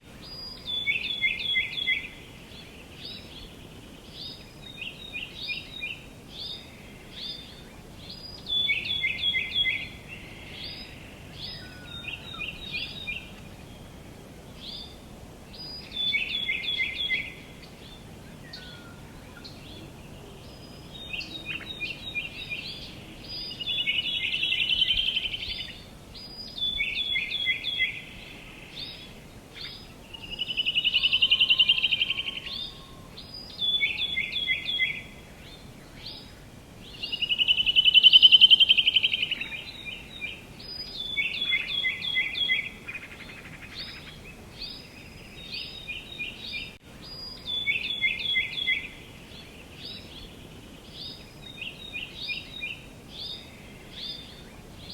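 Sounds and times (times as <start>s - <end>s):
soft background hiss: 0.0s - 54.9s
songbirds singing: 0.0s - 54.9s.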